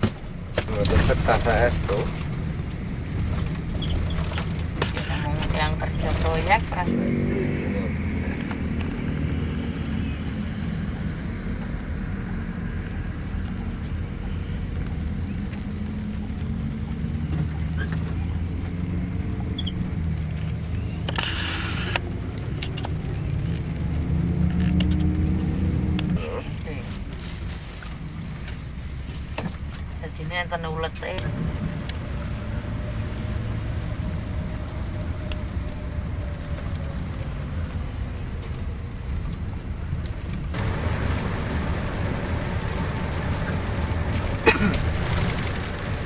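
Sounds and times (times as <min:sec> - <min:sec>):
bus engine droning: 0:00.0 - 0:46.0.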